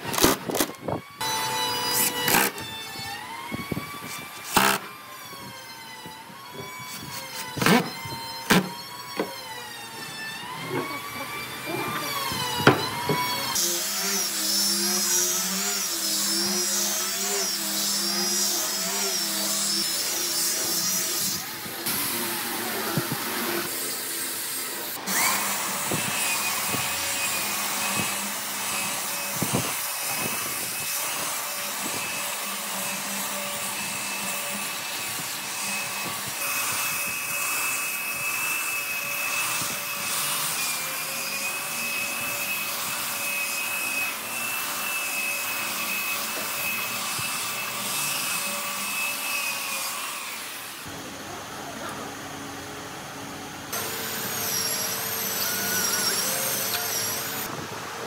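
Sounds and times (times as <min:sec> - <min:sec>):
belt sander motor whine: 0:00.4 - 0:58.0.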